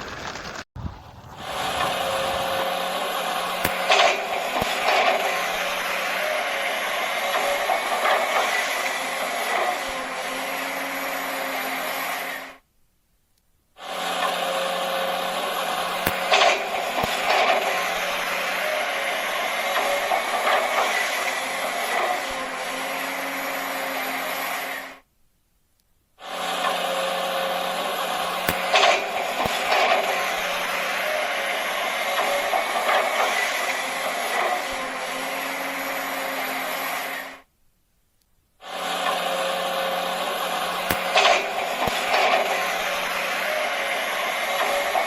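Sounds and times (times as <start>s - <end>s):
machine humming: 0.0s - 12.6s, 13.8s - 24.9s, 26.2s - 37.4s, 38.6s - 45.0s.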